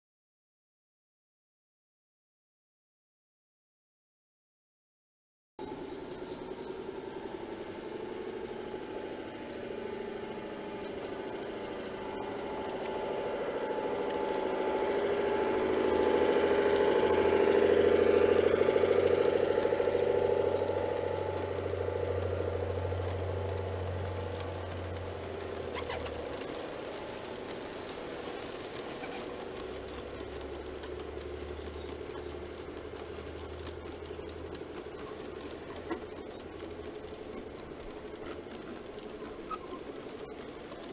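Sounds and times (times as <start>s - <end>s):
wheels rattling on rails: 5.6s - 40.9s
model train motor whirring: 5.7s - 40.9s.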